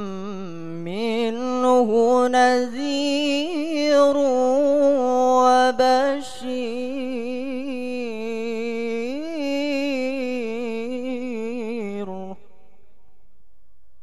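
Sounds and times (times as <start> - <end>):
boy chanting melodic recitation: 0.0 - 12.4.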